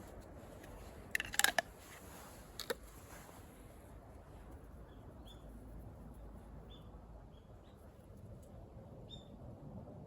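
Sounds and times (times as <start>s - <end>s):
faint outdoor rumble: 0.0s - 10.0s.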